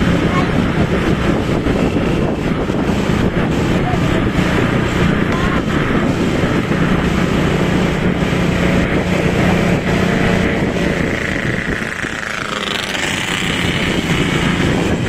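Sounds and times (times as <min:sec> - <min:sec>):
bus engine humming: 0:00.0 - 0:15.0
rising whine: 0:00.0 - 0:15.0
road noise: 0:00.0 - 0:15.0.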